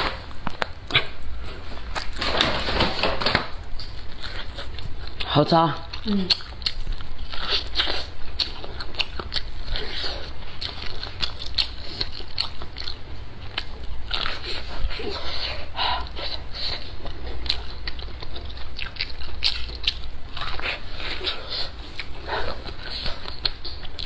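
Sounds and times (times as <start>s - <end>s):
chewing corn on the cob: 3.6s - 24.0s.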